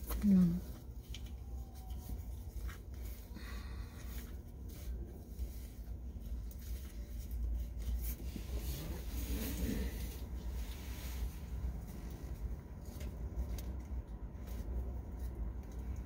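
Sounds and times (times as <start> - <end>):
low steady rumble: 0.0 - 16.0
straps and netting rustling: 0.0 - 16.0.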